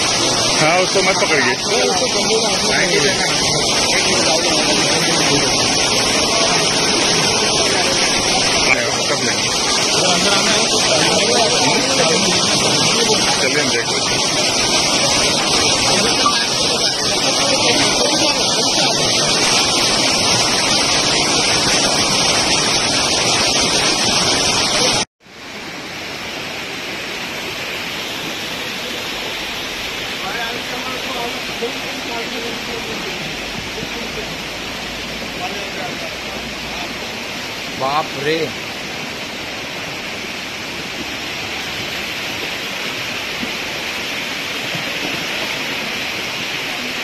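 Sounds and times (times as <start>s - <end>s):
floodwater rushing: 0.0s - 47.0s.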